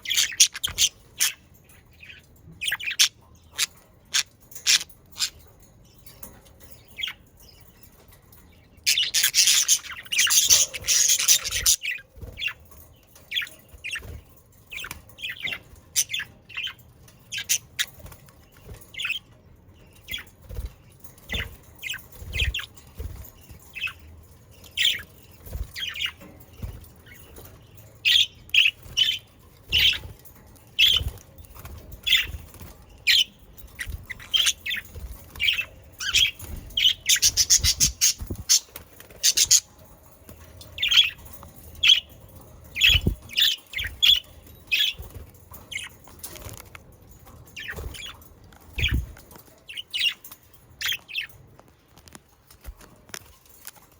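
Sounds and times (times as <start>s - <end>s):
budgerigars chirping and squawking: 0.0s - 51.4s.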